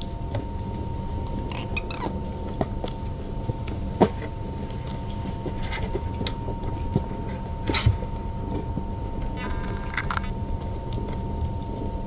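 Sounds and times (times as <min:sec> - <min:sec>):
faint high whine: 0:00.0 - 0:12.0
low rumble: 0:00.0 - 0:12.0.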